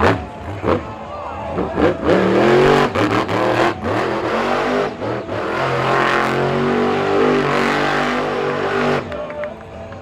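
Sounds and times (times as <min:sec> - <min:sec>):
truck engine revving hard: 0:00.0 - 0:09.2.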